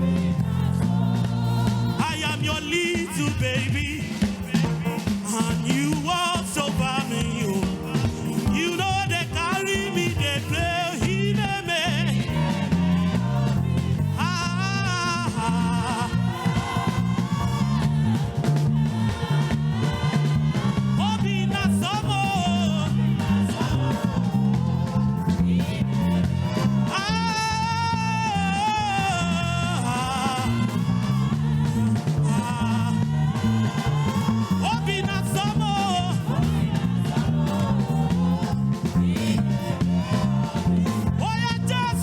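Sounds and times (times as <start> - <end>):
busy bass line: 0.0 - 42.0
worship band music: 0.0 - 42.0.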